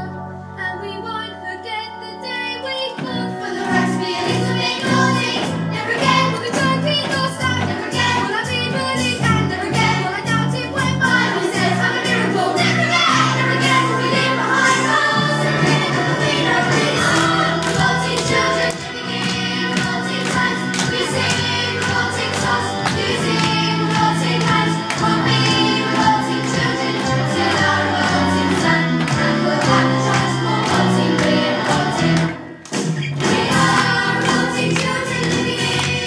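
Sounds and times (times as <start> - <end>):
music with steady beat: 3.0 - 36.0
group singing: 3.4 - 32.5, 33.2 - 36.0.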